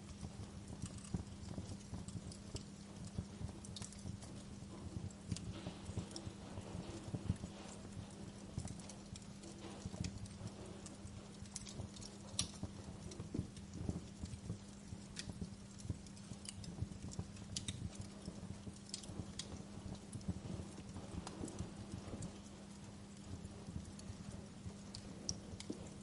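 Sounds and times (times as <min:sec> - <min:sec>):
fire crackling in fireplace: 0:00.0 - 0:26.0
steady low hum: 0:00.0 - 0:26.0.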